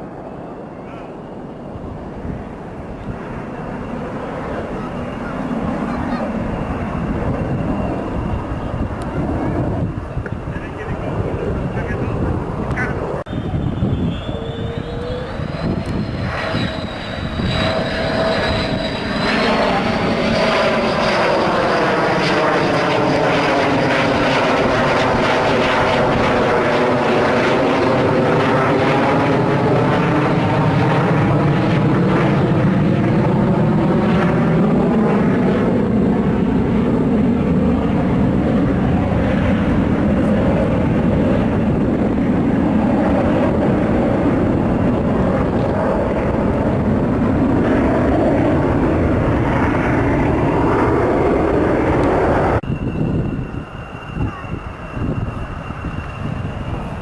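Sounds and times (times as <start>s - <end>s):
high jet whine: 0.0s - 57.0s
jet engine roar: 0.0s - 57.0s.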